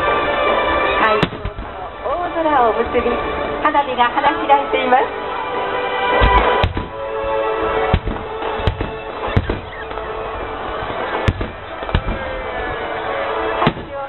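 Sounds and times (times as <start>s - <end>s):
fireworks bursting: 0.0s - 14.0s
music: 0.0s - 14.0s.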